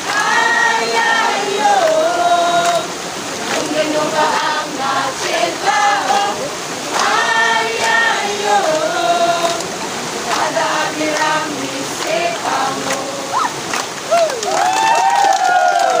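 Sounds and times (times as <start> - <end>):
group singing in unison: 0.0 - 13.7
waterfall rushing: 0.0 - 16.0.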